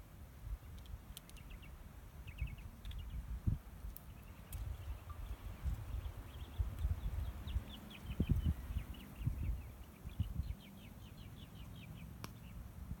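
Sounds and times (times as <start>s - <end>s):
small bird singing: 0.6s - 12.7s.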